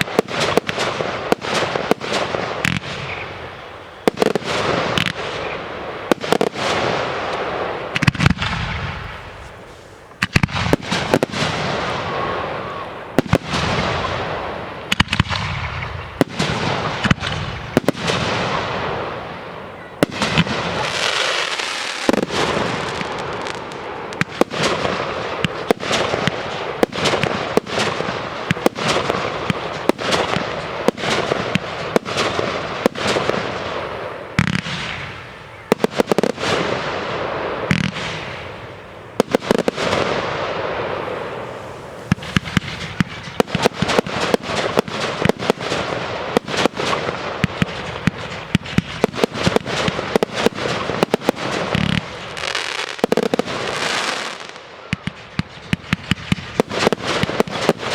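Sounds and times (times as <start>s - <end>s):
fireworks hissing and crackling: 0.0s - 57.9s.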